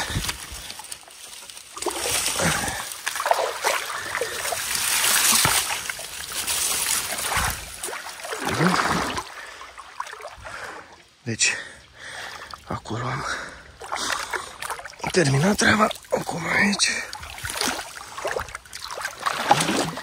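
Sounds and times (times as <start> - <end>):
river water splashing: 0.0 - 20.0.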